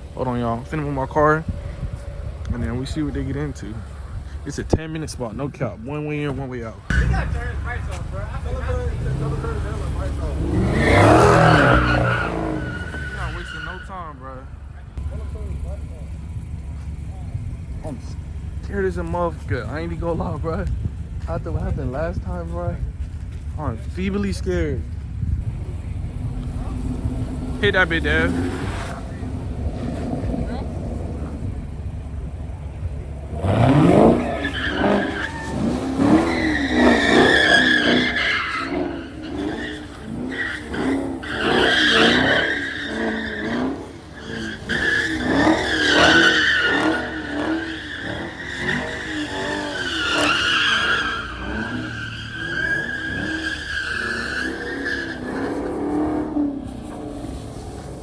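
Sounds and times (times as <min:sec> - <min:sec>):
car engine revving: 0:00.0 - 0:58.0
tires squealing: 0:00.0 - 0:58.0.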